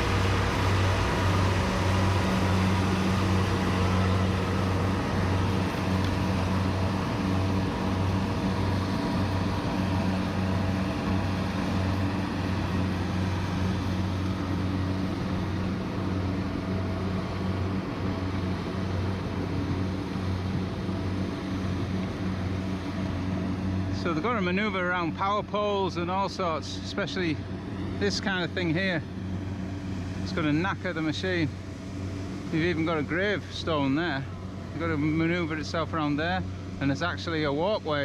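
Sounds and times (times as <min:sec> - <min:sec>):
combine harvester engine humming: 0:00.0 - 0:38.0.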